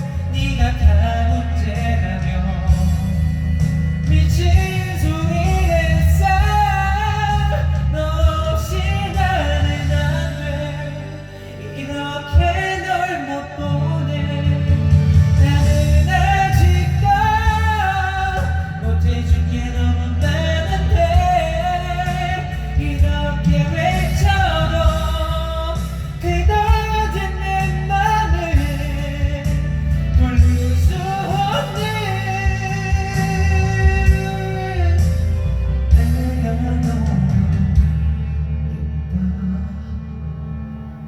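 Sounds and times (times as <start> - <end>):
band accompaniment: 0.0 - 40.7
pop song with solo singer: 0.0 - 41.0.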